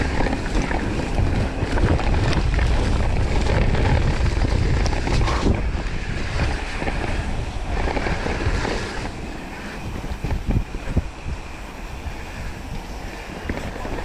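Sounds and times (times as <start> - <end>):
bike rattling over ground: 0.0 - 14.0
wind buffeting microphone: 0.0 - 14.0.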